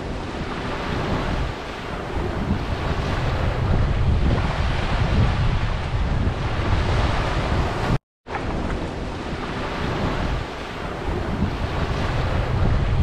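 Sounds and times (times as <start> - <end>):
small waves on sandy beach: 0.0 - 13.0
wind rumbling on microphone: 0.0 - 13.0.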